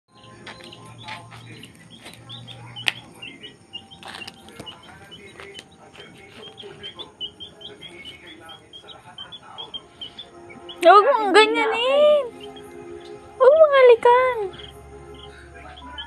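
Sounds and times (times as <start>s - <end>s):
baby chick peeping: 0.1s - 16.0s.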